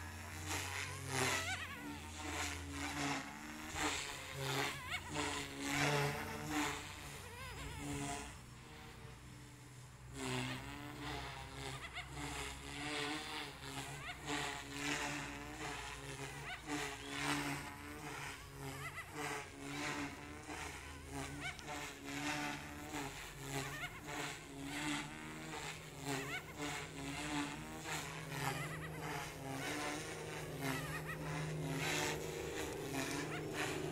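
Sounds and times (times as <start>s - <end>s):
rc helicopter buzzing whine: 0.0s - 33.9s.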